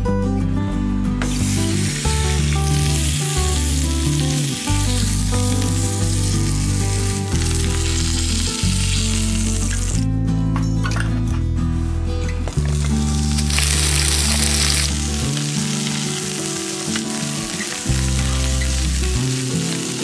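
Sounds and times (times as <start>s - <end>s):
background music: 0.0s - 20.0s
meat sizzling in a frying pan: 1.3s - 10.0s, 12.7s - 20.0s.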